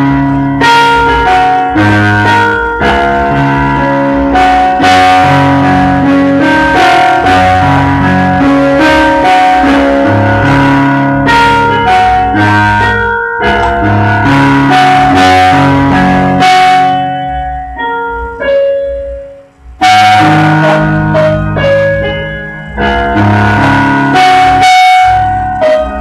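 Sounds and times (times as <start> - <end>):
electronic keyboard melody: 0.0 - 26.0
low bass line: 0.0 - 26.0.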